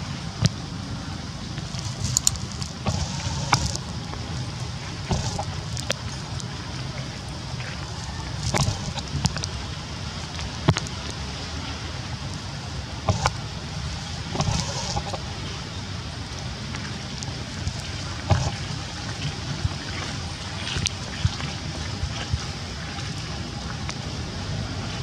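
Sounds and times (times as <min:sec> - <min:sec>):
steady rain: 0:00.0 - 0:25.0
wind rumbling on microphone: 0:00.0 - 0:25.0.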